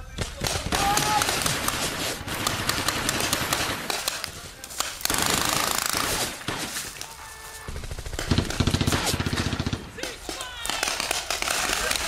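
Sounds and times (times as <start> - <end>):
rapid rattle of shots: 0.2 - 6.8, 7.7 - 12.0.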